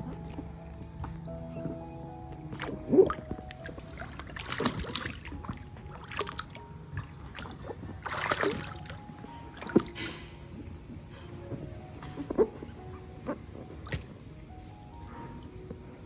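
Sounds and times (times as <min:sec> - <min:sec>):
water splashing in a pool: 0:02.5 - 0:16.0.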